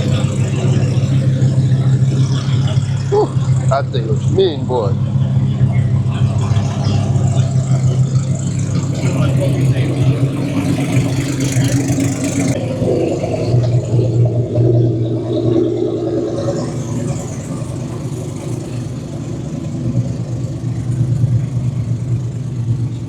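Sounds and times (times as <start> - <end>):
drag car engines idling: 0.0 - 23.0.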